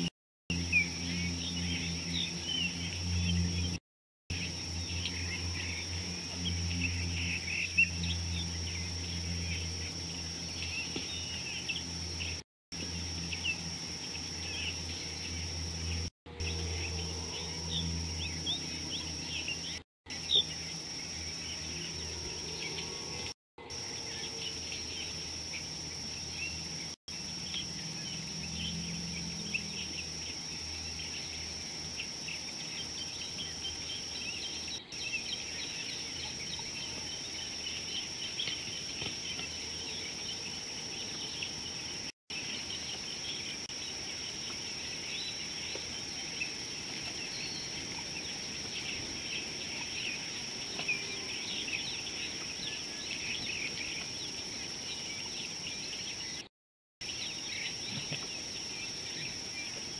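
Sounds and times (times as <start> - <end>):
high-pitched insect drone: 0.0 - 54.8.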